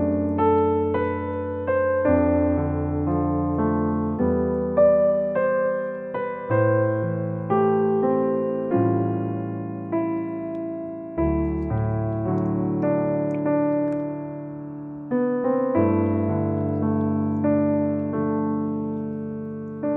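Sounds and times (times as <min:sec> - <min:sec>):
slow piano melody: 0:00.0 - 0:19.9.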